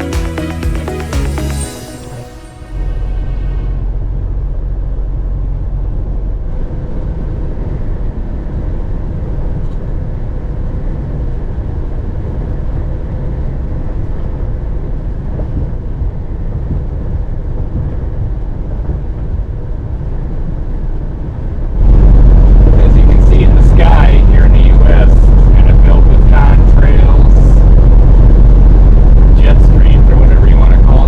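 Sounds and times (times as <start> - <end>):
semi truck road and engine rumble: 0.0 - 31.0.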